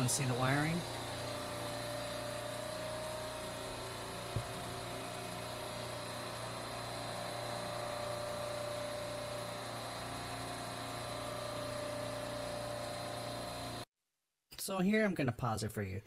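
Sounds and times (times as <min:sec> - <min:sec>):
compressors humming: 0:00.0 - 0:13.8.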